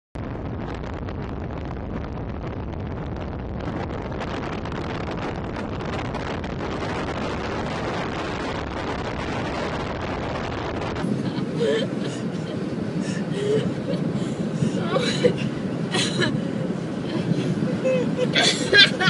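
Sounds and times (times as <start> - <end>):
car road noise: 0.2 - 19.0
wind buffeting microphone: 0.2 - 19.0.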